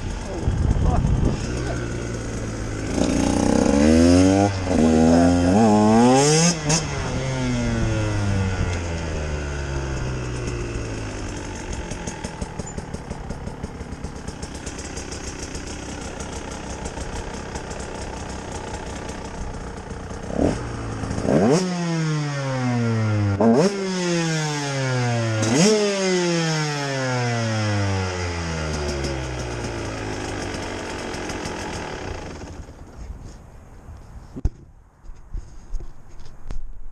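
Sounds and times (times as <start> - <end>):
motorcycle engine revving: 0.0 - 33.1.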